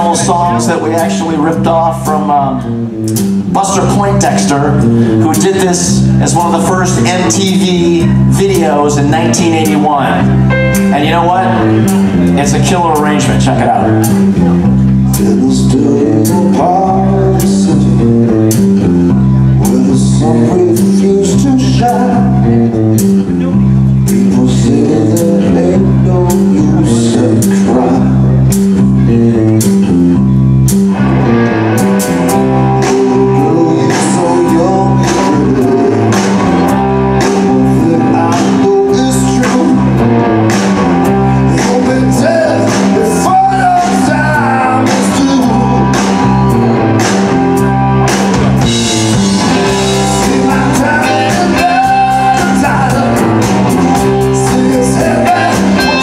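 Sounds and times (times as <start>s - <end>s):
drum kit beat: 0.0s - 2.3s, 3.0s - 56.0s
man singing: 0.0s - 2.8s, 3.5s - 30.0s, 32.3s - 46.7s, 48.6s - 56.0s
bass guitar riff: 0.0s - 56.0s
electric guitars: 0.0s - 56.0s.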